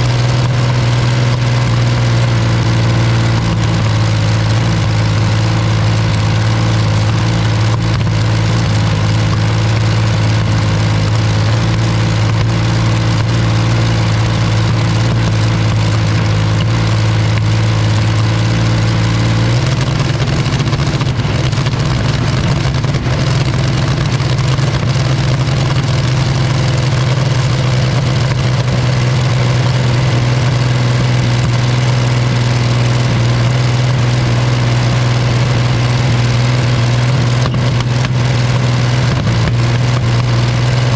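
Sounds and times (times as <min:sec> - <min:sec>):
engine running loudly: 0:00.0 - 0:40.9.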